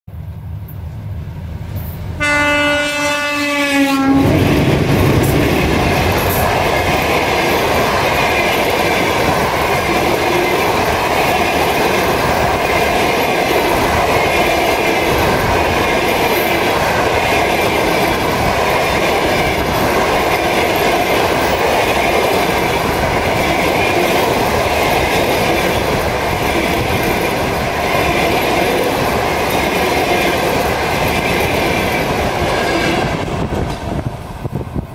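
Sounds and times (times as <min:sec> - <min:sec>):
passing train rush: 0:00.1 - 0:34.9
train wheels clickety-clack: 0:04.2 - 0:34.9.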